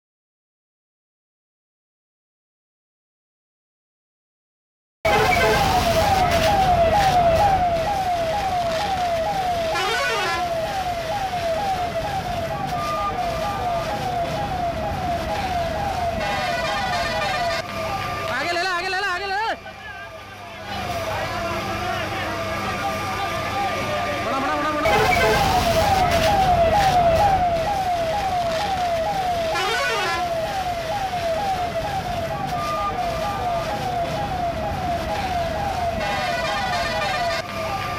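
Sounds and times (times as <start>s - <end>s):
emergency vehicle siren: 5.1s - 37.9s.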